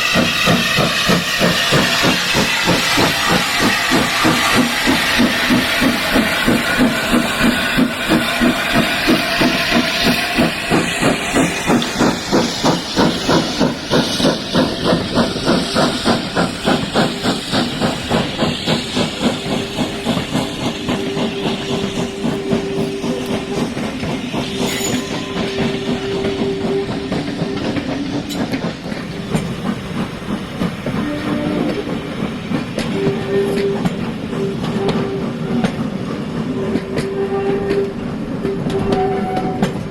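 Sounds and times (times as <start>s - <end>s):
steam hissing: 0.0s - 36.6s
rail clatter: 0.0s - 39.9s
steam locomotive chuffing: 0.0s - 39.9s.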